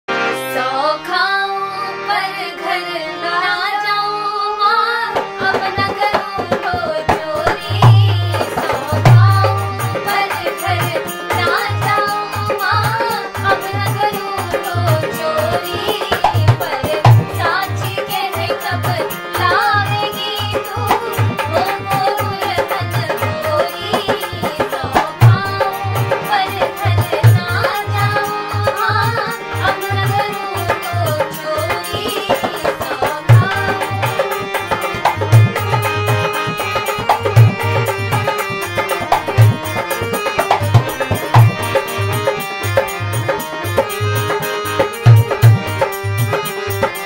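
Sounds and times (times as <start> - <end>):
harmonium: 0.0 - 47.0
woman and boy singing: 0.4 - 47.0
dholak drum beat: 5.1 - 47.0.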